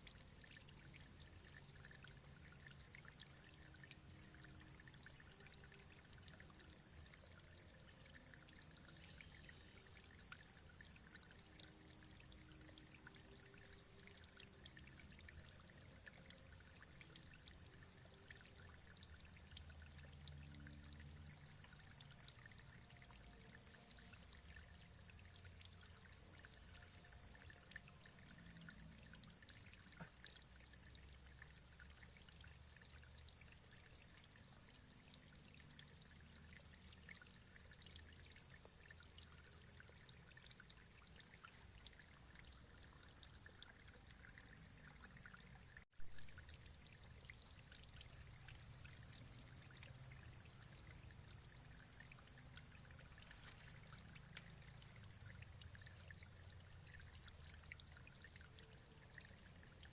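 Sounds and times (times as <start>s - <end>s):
faint running water: 0.0s - 59.9s
water drips and splashes: 0.0s - 59.9s.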